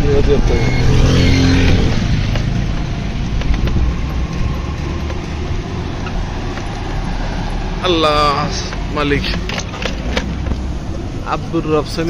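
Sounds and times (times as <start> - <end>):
vehicle road and motor rumble: 0.0 - 12.0.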